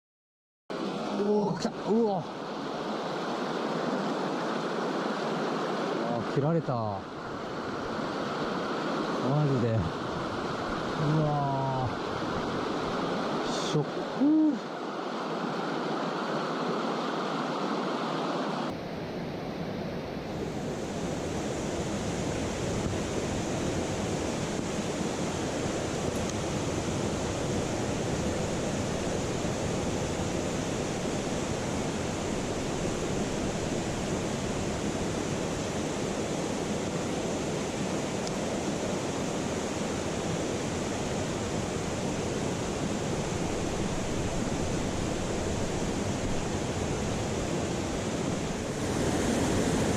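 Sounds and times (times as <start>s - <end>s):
stream water rushing: 0.7s - 49.9s.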